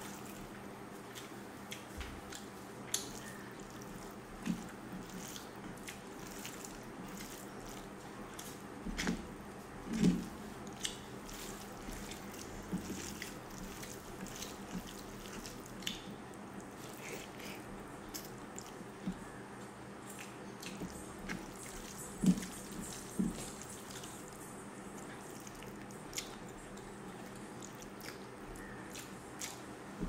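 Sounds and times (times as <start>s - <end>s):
lip-smacking of eating: 0.0s - 9.2s, 10.0s - 29.8s
fingers squelching food: 1.1s - 9.2s, 9.9s - 19.4s, 20.0s - 29.8s.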